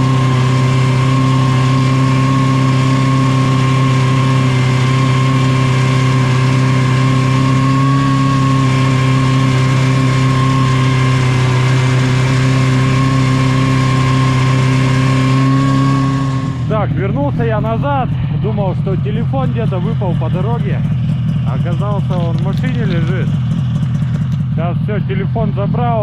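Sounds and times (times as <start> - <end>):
snow vehicle engine running: 0.0 - 26.0.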